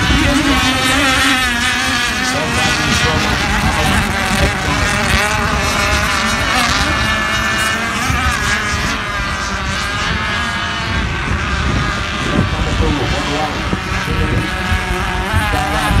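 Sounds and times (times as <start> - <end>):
model boat engines whining: 0.0 - 16.0.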